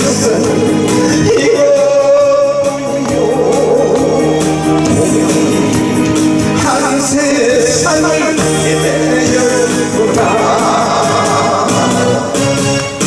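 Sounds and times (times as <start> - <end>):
man singing into microphone: 0.0 - 5.9, 6.5 - 12.4
recorded backing track with beat: 0.0 - 13.0.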